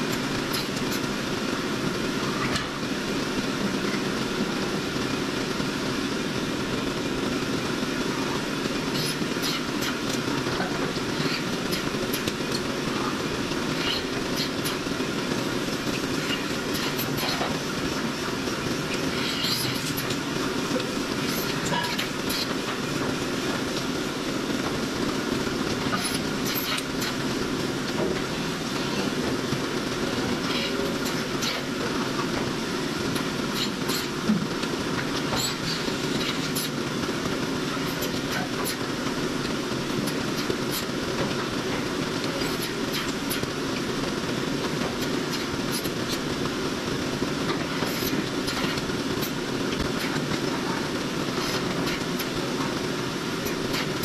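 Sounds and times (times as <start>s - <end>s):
sharp clicks and clanks: 0.0s - 1.2s, 8.7s - 54.0s
milking machinery clatter: 0.0s - 54.0s.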